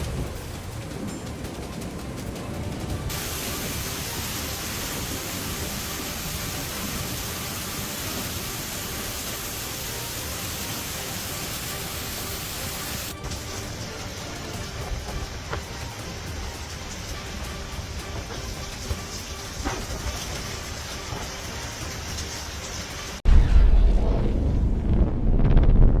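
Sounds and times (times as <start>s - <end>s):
rushing storm water: 0.0s - 25.6s.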